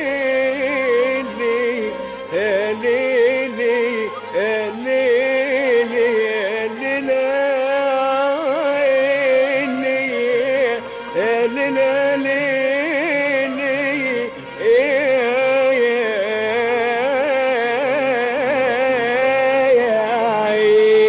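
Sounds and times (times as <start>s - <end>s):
ornamented classical melody: 0.0s - 21.0s.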